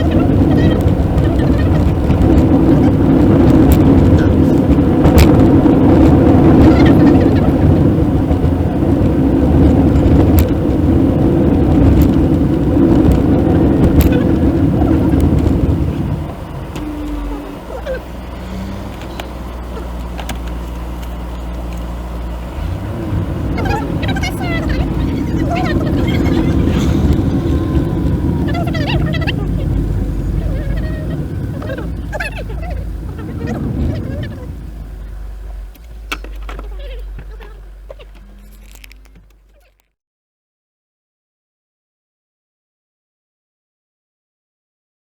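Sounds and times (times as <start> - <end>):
car road and engine noise: 0.0 - 39.9
engine idling hum: 0.0 - 39.9.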